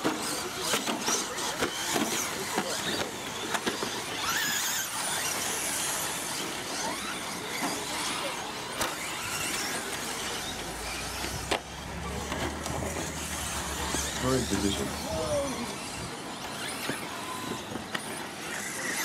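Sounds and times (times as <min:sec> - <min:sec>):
rc truck motors whining: 0:00.0 - 0:19.0.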